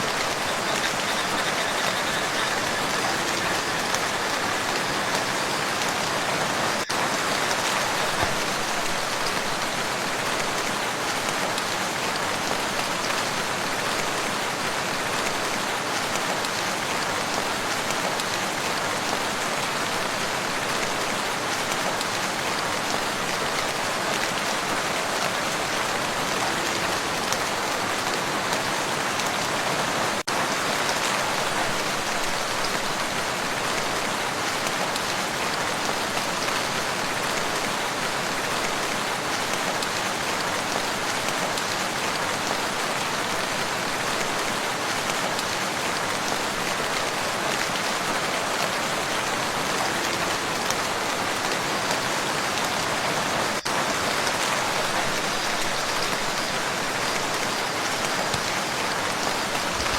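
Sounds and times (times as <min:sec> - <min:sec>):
rain falling on a lake: 0:00.0 - 0:59.9.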